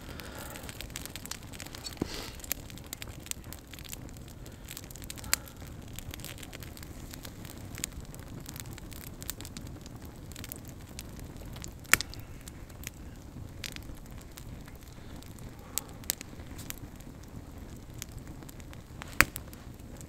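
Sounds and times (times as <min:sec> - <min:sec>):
campfire crackling: 0:00.0 - 0:20.0
sharp fire pops: 0:00.0 - 0:20.0.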